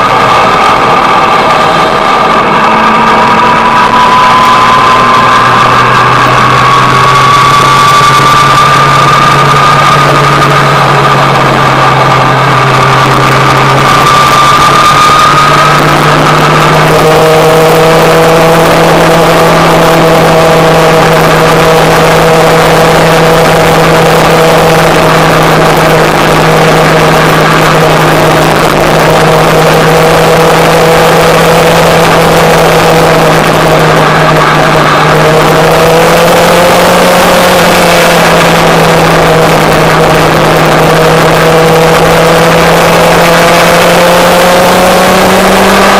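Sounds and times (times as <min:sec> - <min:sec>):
motorcycle engine running: 0:00.0 - 0:45.9
wind and road noise: 0:00.0 - 0:45.9.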